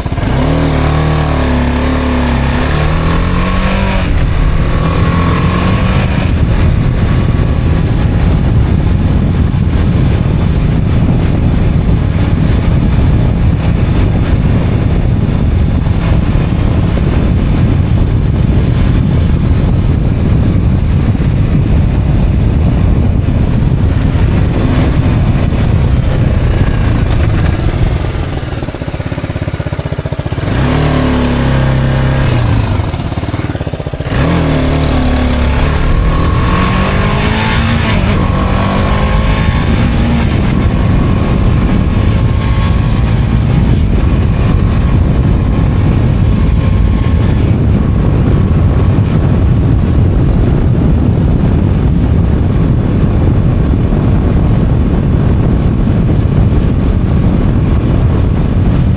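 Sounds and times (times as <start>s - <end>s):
motorcycle engine revving: 0.0s - 58.9s
wind rush: 0.0s - 58.9s.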